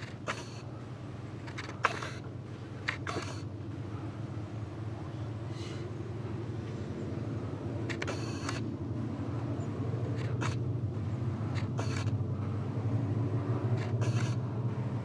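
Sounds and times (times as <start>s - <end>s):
train running with low drone: 0.0s - 15.0s.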